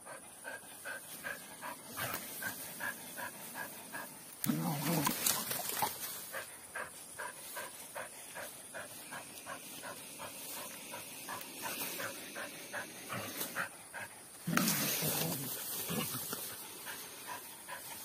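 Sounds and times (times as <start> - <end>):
dog panting: 0.0 - 4.3, 5.6 - 14.4, 16.2 - 18.0.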